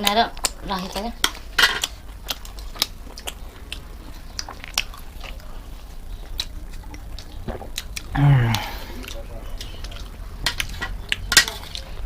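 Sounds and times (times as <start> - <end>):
chewing and wet mouth sounds: 0.0 - 12.0.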